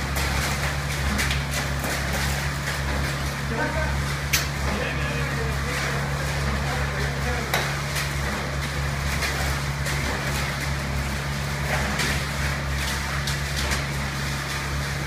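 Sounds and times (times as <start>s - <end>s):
concrete pump engine droning: 0.0s - 15.0s.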